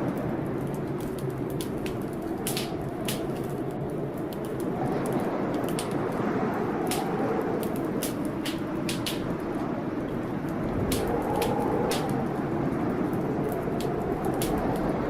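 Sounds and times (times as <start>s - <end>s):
storm rain: 0.0s - 15.0s
wood fire crackling and popping: 0.0s - 15.0s.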